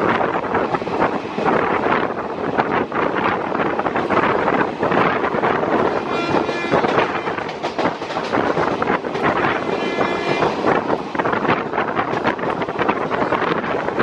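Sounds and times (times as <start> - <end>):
passing train: 0.0 - 14.0
train wheels rumbling on rails: 0.0 - 14.0
wind rushing over microphone: 0.0 - 14.0.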